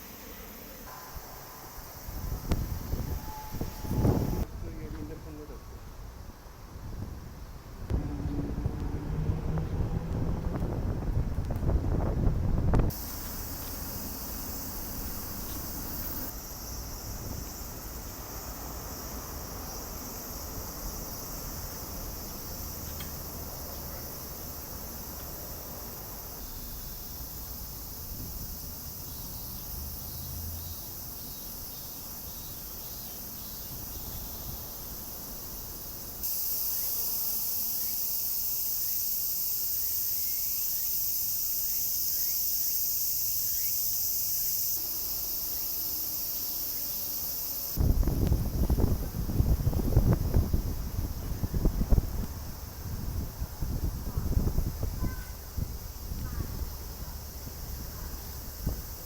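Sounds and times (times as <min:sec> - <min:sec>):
insects trilling: 0:00.0 - 0:04.5, 0:12.7 - 0:59.0.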